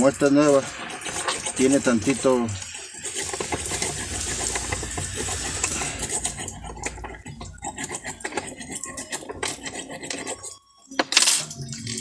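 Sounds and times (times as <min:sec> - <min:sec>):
screwdriver scraping steel shaft: 0:00.0 - 0:12.0.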